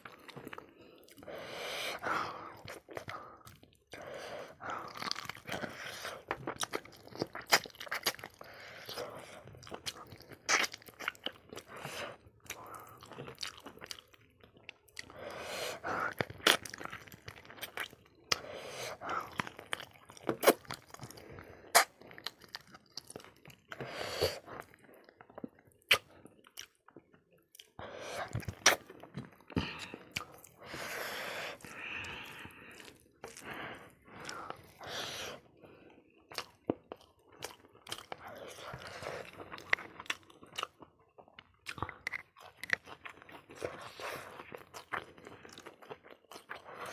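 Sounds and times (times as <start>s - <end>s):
wet chewing: 2.0s - 46.9s
person crunching on bone: 2.5s - 15.2s, 15.8s - 31.0s, 31.6s - 33.5s, 36.2s - 46.9s.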